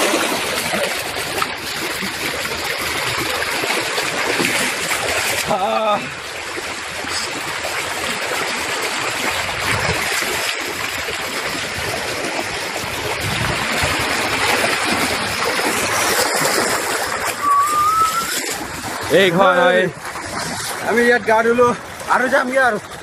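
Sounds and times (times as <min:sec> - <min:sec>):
river water rushing over stones: 0:00.0 - 0:23.0.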